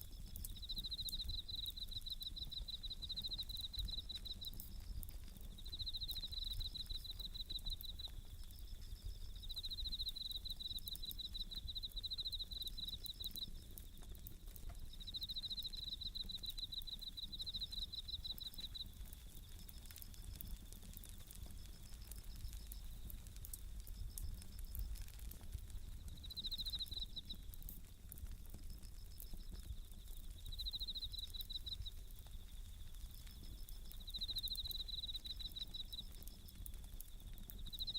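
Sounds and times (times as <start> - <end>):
campfire crackling: 0.0 - 37.9
crickets chirping: 0.0 - 37.9.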